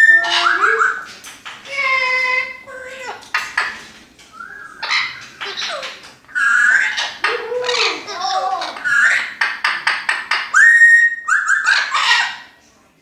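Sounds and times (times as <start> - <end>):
parrots squawking and whistling: 0.0 - 12.6.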